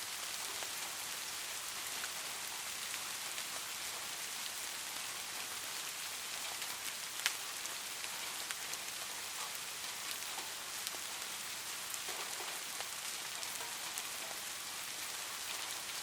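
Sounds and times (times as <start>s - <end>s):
light rain falling: 0.0s - 16.0s
raindrops pattering: 0.0s - 16.0s.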